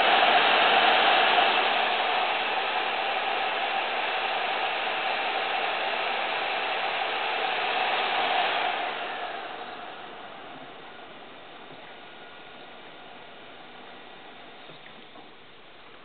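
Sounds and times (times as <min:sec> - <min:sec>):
fan whirring with whine: 0:00.0 - 0:16.0.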